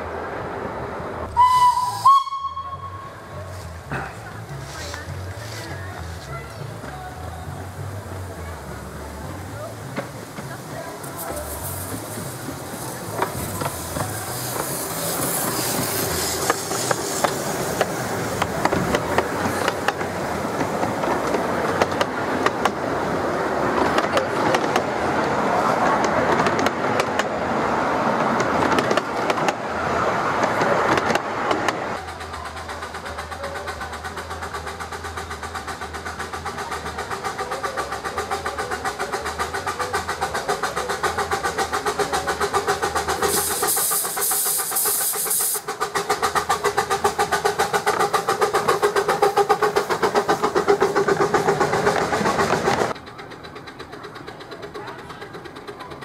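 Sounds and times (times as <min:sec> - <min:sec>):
railway carriage wheels rumbling: 0:00.0 - 0:56.0
steam locomotive chuffing: 0:01.0 - 0:56.0
steam hissing: 0:01.3 - 0:56.0.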